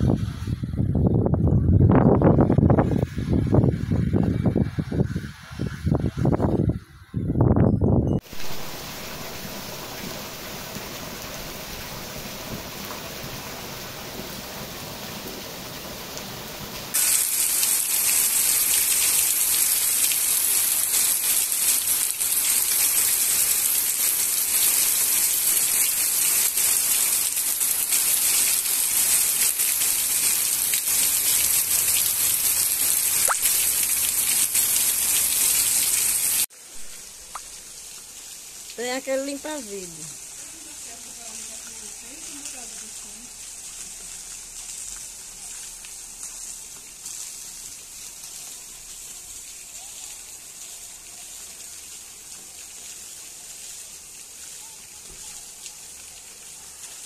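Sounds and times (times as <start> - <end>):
heavy rain falling: 8.2 - 57.0.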